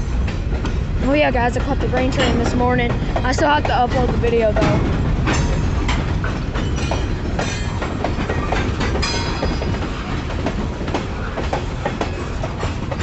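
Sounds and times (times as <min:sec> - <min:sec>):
railroad cars rumbling: 0:00.0 - 0:13.0
wheels clacking over rail joints: 0:00.0 - 0:13.0.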